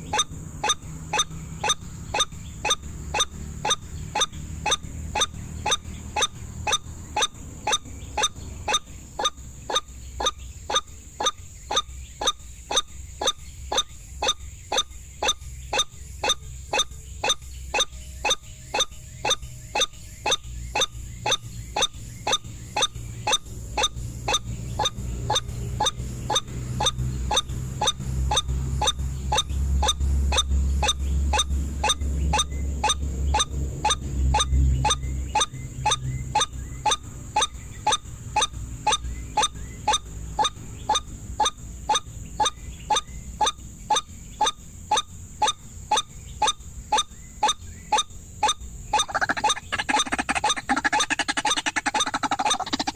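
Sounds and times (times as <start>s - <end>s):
bird call repeating: 0.0s - 52.9s.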